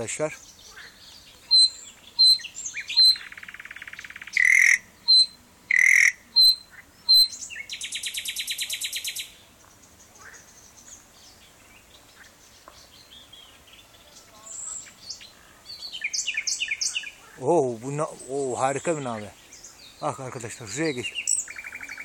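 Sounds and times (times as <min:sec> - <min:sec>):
nightingale singing: 0:00.0 - 0:22.0.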